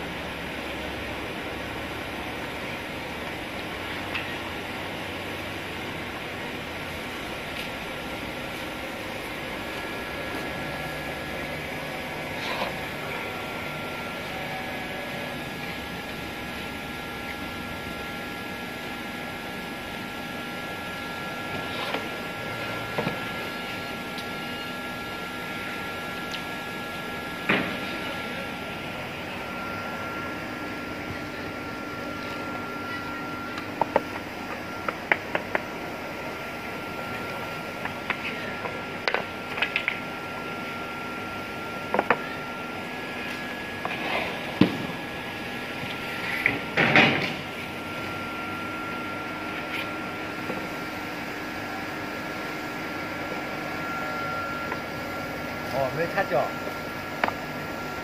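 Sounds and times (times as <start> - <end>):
background hum and hiss: 0.0 - 58.0.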